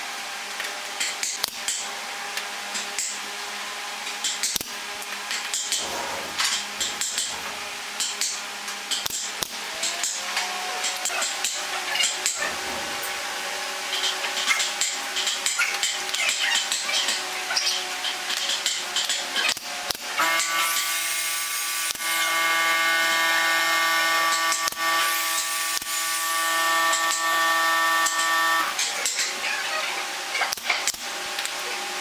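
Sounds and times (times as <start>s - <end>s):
steady motor hum: 2.0s - 32.0s.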